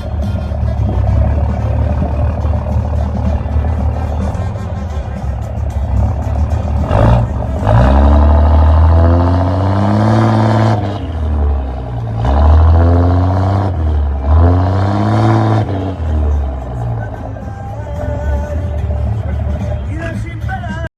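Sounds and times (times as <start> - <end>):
diesel engine revving: 0.0 - 20.9.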